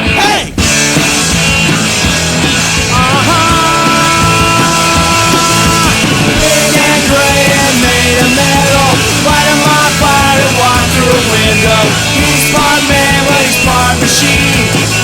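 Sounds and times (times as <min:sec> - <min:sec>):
punk rock band playing: 0:00.0 - 0:15.0.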